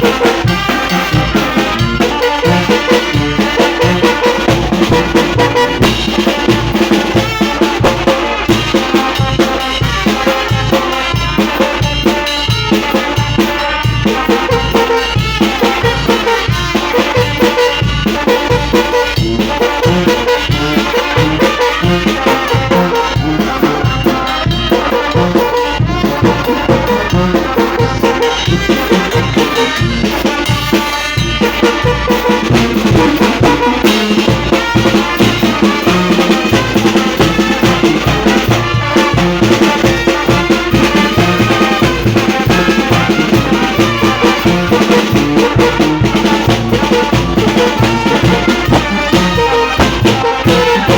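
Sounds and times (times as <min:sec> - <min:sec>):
steady drum beat: 0:00.0 - 0:50.9
trumpets playing a tune: 0:00.0 - 0:50.9.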